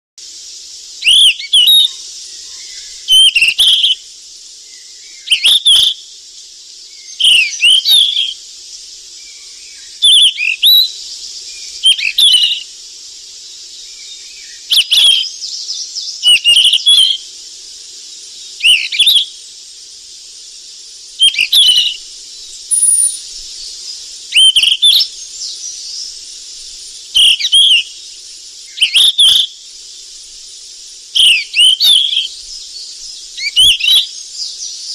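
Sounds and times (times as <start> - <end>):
steady high hiss: 0.2 - 34.9
bird chirping song: 1.0 - 4.0, 4.6 - 19.8, 21.1 - 34.9.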